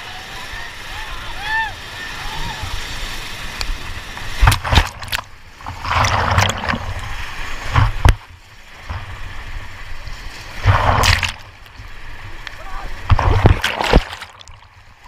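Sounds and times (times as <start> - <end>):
whitewater rushing and splashing: 0.0 - 15.0.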